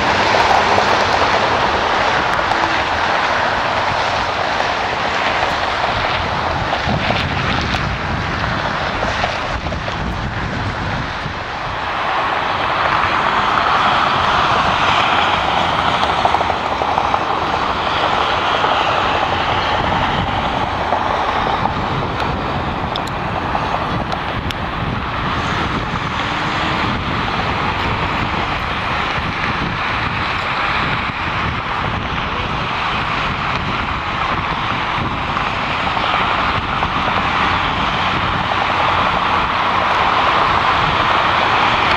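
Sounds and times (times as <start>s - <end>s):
distant jet engines running: 0.0s - 41.9s.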